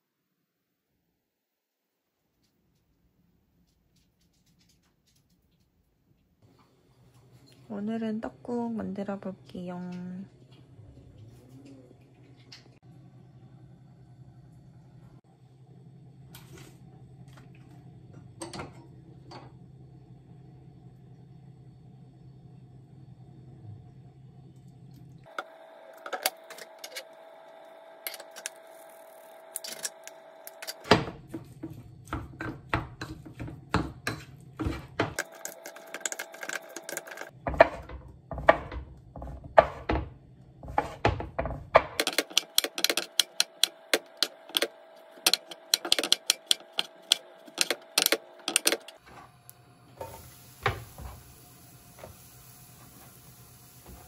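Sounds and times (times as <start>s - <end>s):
kitchen hum: 0.1s - 54.0s.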